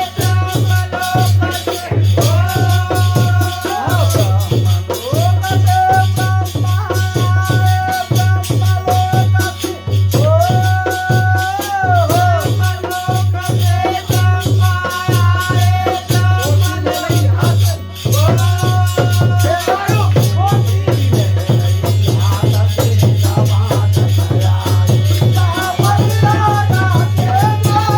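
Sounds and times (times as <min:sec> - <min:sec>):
drum beat: 0:00.0 - 0:27.9
held melody line: 0:00.0 - 0:27.9
jingling rattle percussion: 0:00.0 - 0:27.9.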